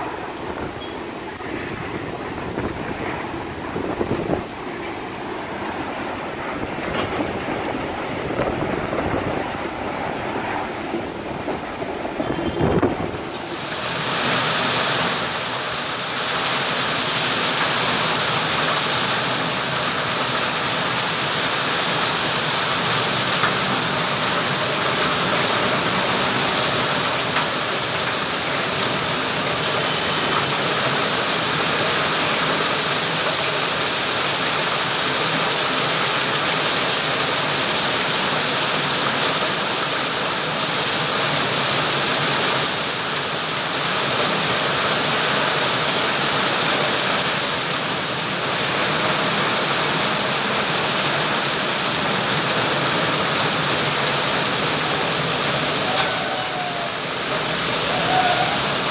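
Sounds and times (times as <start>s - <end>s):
heavy rain on pavement: 0.0s - 58.9s.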